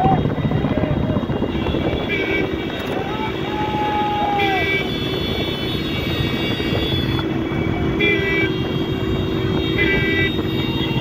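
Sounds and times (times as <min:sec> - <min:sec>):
motorcycle running at speed: 0:00.0 - 0:11.0
wind and road noise: 0:00.0 - 0:11.0
vehicle horn toots: 0:00.1 - 0:11.0.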